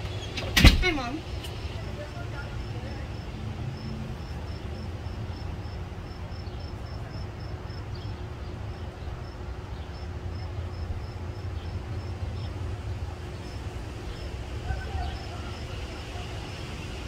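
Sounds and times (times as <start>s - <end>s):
cricket chirping: 1.8s - 12.8s, 13.4s - 17.0s.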